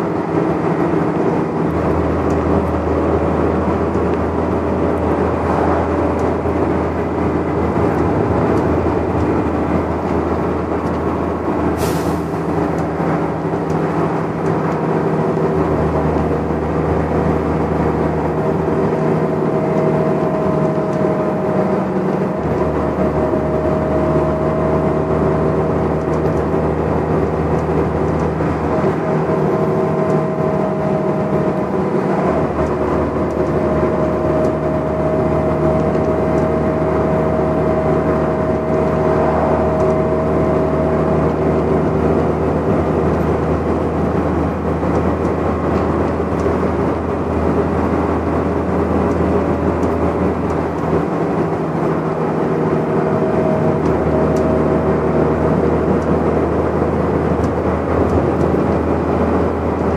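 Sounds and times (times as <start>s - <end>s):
bus engine and road noise: 0.0s - 59.9s
steady whine: 0.0s - 59.9s.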